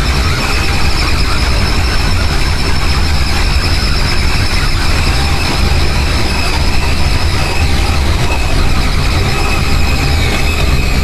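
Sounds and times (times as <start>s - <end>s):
deep rumble: 0.0s - 11.0s
distorted electronic noise: 0.0s - 11.0s
faint high whine: 0.0s - 11.0s.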